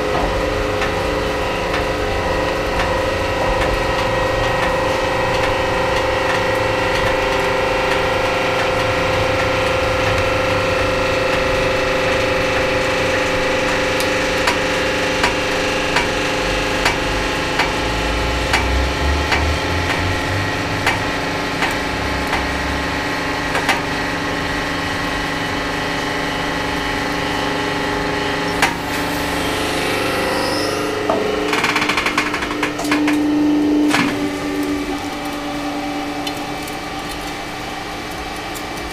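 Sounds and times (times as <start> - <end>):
hydraulic pump running: 0.0 - 37.6.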